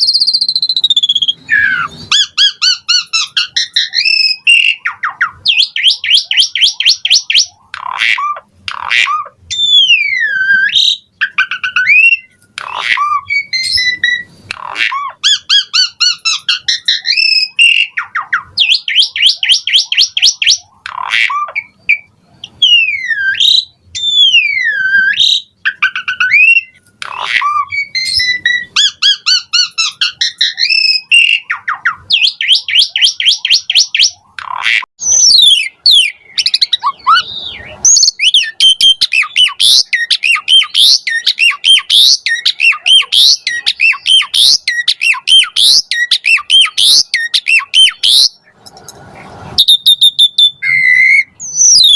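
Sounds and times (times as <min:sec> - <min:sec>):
starling singing: 0:00.0 - 0:48.6, 0:49.6 - 0:51.9.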